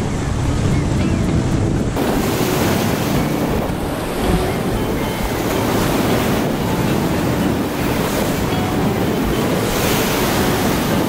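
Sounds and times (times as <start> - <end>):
surf washing on rocky shore: 0.0 - 11.0
wind buffeting microphone: 0.0 - 11.0.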